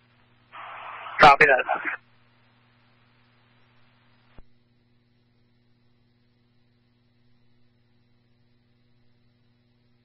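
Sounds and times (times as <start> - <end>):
faint electrical hum with hiss: 0.0 - 10.0.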